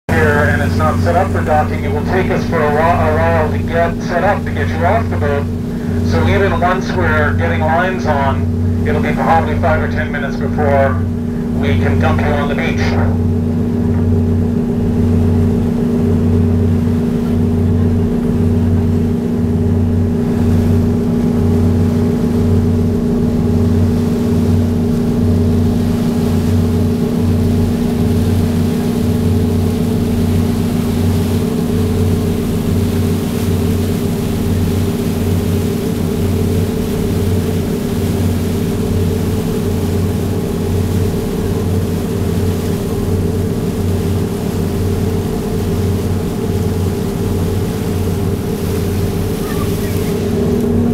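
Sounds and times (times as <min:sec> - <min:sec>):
boat diesel engines humming: 0:00.0 - 0:50.9.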